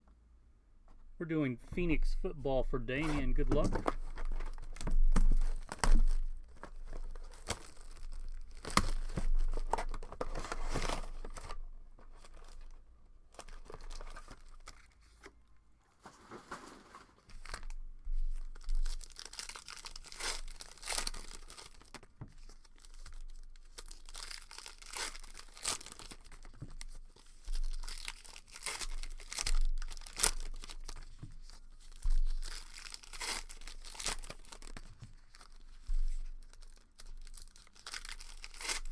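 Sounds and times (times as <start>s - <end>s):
wrapping tearing and rustling: 3.0s - 38.9s.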